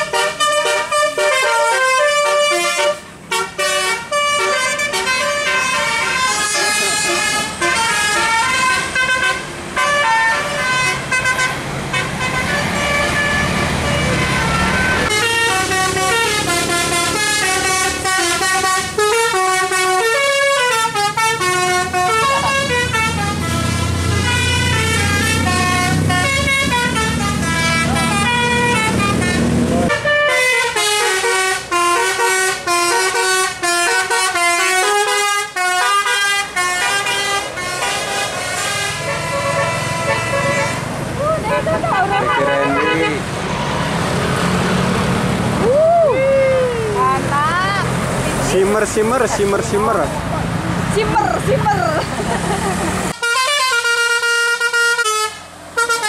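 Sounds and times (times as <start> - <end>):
musical air horn melody: 0.0 - 41.0, 42.0 - 43.3, 53.1 - 56.0
bus engine running: 0.0 - 56.0.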